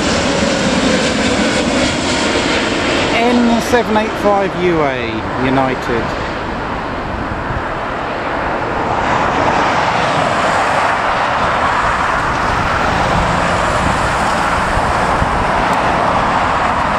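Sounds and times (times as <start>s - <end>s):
jet engines rushing: 0.0s - 16.9s.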